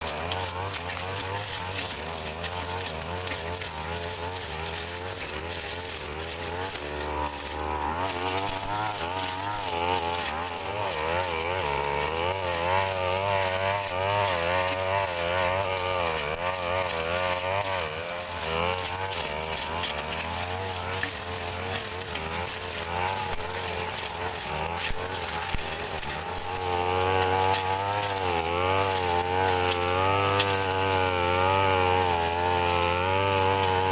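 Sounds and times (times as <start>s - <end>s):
brush cutter engine cutting grass: 0.0s - 33.9s.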